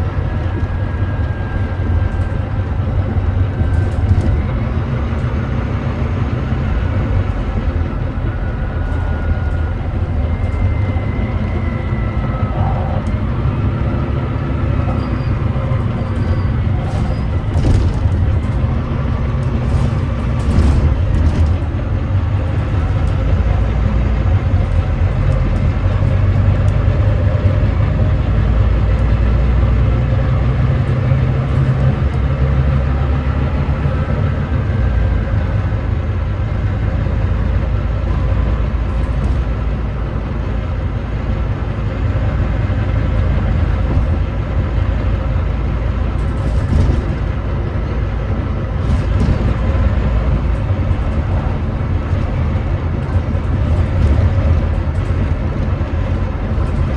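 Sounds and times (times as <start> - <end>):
bus diesel engine rumbling: 0.0 - 56.9.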